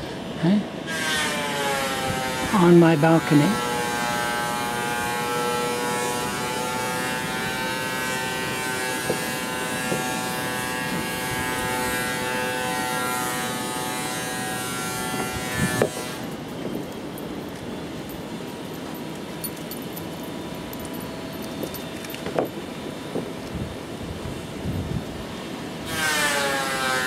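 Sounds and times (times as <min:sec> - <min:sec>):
workshop machine whining drone: 0:00.0 - 0:27.0.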